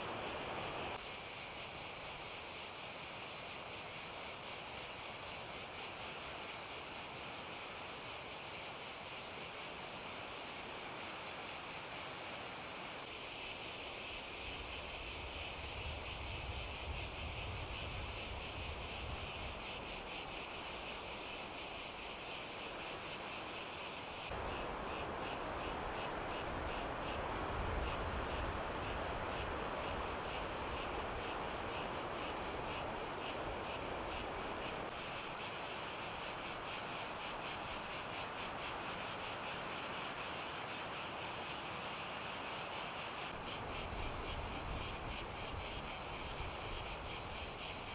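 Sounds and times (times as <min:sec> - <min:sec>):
insects chirring: 0:00.0 - 0:47.9.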